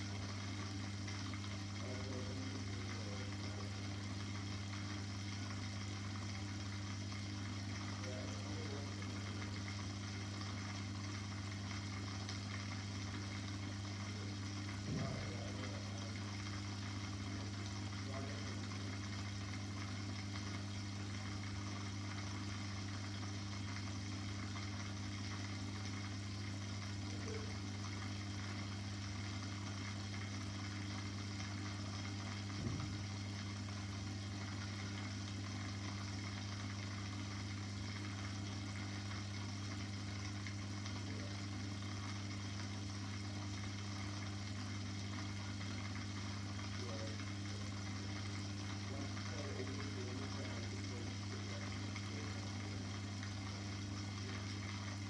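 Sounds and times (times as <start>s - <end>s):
aquarium pump humming: 0.0s - 55.0s.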